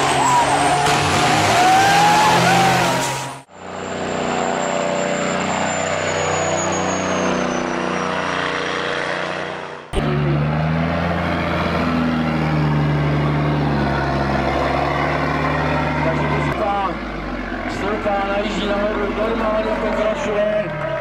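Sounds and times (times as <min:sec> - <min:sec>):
heavy vehicle engines running: 0:00.0 - 0:21.0.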